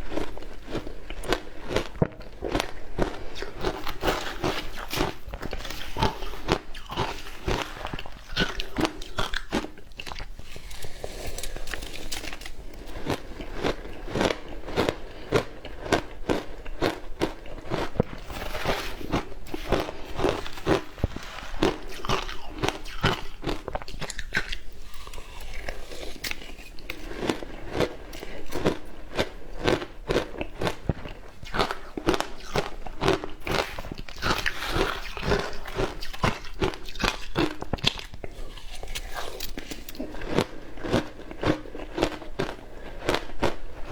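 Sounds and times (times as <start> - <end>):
ice crunching being chewed: 0.0 - 43.9.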